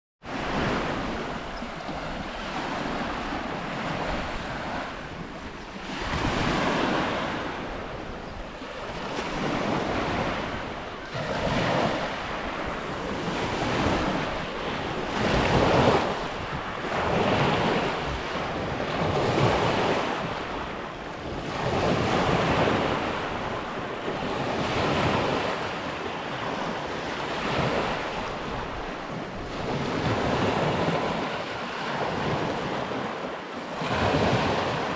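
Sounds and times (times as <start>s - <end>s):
waves washing against shore: 0.2s - 34.9s.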